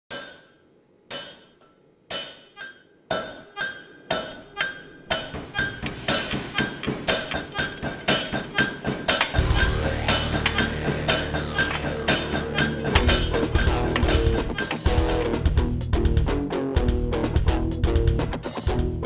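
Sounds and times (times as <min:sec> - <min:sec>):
hammer striking an anvil: 0:00.1 - 0:15.4.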